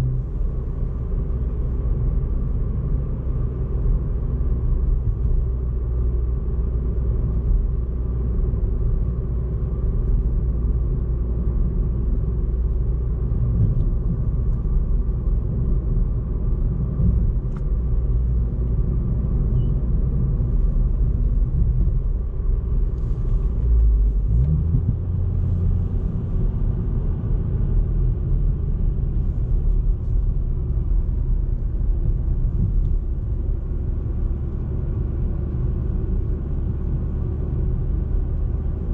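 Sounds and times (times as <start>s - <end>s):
car engine while driving: 0.0s - 38.9s
road noise: 0.0s - 38.9s.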